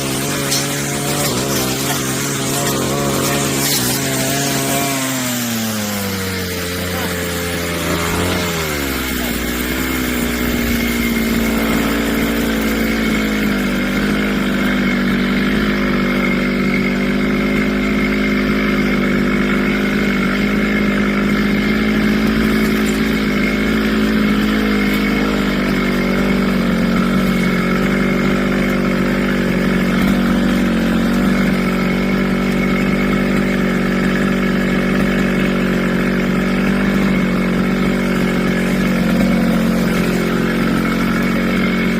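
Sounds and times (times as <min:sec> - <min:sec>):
brush cutter engine: 0:00.0 - 0:41.9.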